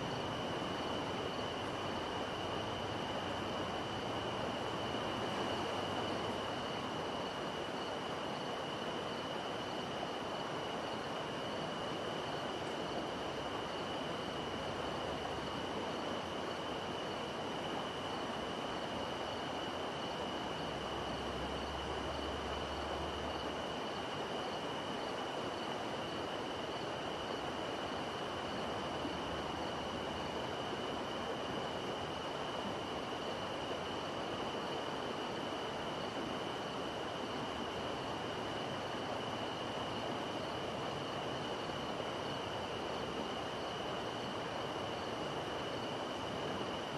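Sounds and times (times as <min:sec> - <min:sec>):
constant high-pitched tone: 0:00.0 - 0:46.9.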